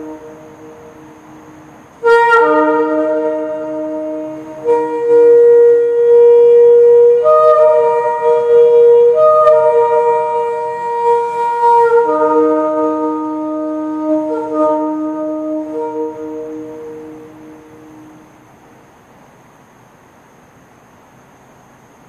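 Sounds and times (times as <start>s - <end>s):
shofar blown in held notes: 0.0s - 18.4s.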